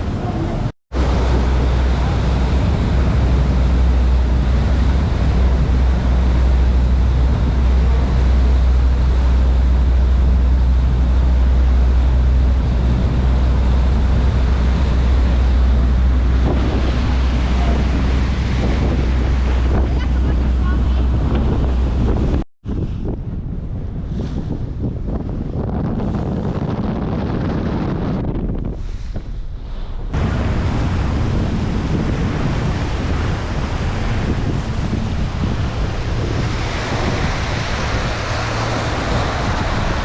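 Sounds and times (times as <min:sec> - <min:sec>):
boat engine drone: 0:00.0 - 0:28.0, 0:29.4 - 0:40.0
wind buffeting microphone: 0:00.0 - 0:40.0.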